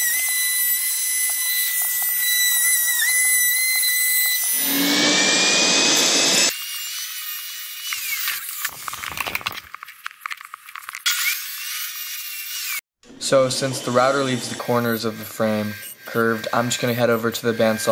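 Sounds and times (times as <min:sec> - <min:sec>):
router whining and cutting wood: 0:00.0 - 0:08.7, 0:11.1 - 0:17.9.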